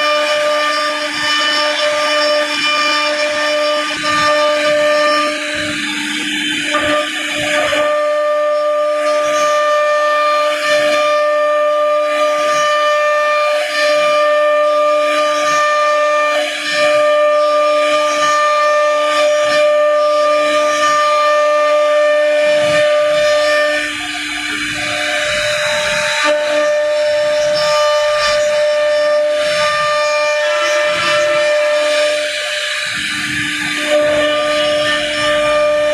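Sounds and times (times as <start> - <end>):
bit cutting wood: 0.0 - 35.9
router spindle whine: 0.0 - 35.9.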